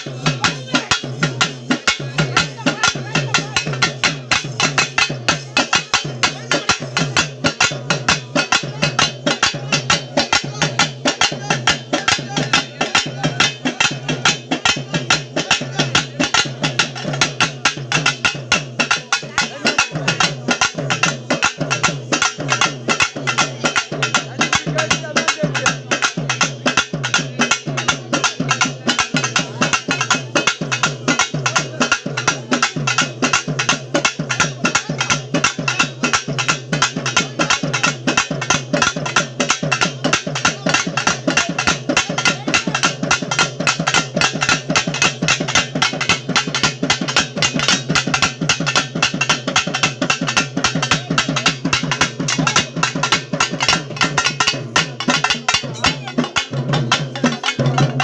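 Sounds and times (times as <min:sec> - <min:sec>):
folk drums beaten with sticks: 0:00.0 - 0:58.0.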